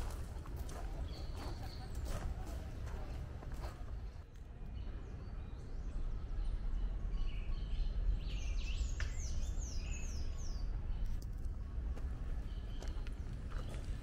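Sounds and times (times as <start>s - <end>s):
songbirds chirping: 0.0s - 14.0s
steady low background noise: 0.0s - 14.0s.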